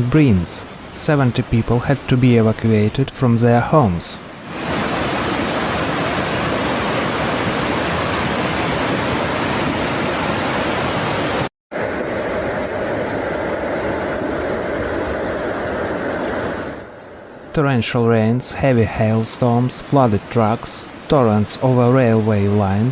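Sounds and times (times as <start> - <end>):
floodwater rushing: 0.0 - 22.9.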